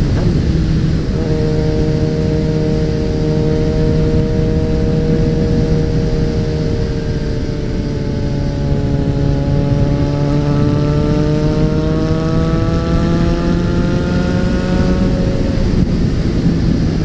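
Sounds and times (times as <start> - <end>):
motorcycle engine with loud exhaust: 0.0 - 17.0
wind rushing: 0.0 - 17.0.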